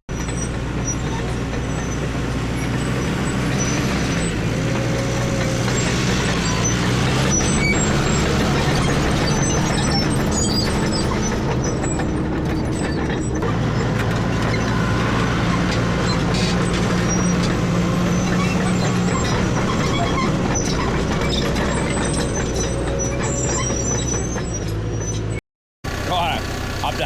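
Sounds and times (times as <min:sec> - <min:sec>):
bulldozer diesel engine running: 0:00.1 - 0:27.0.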